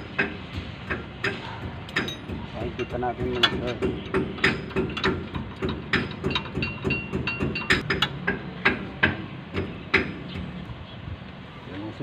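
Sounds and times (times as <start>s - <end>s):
hand tools tapping on metal: 0.0s - 10.6s.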